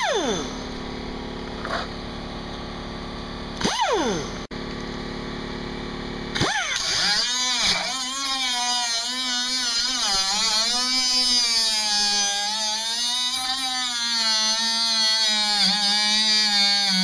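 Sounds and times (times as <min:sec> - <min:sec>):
cutoff wheel cutting steel: 0:00.0 - 0:04.5, 0:06.2 - 0:17.0.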